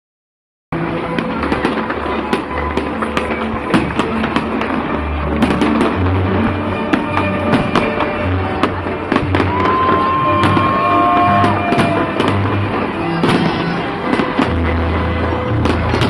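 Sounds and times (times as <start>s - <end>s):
fireworks bangs and crackles: 0.8s - 16.0s
music playing: 0.8s - 16.0s.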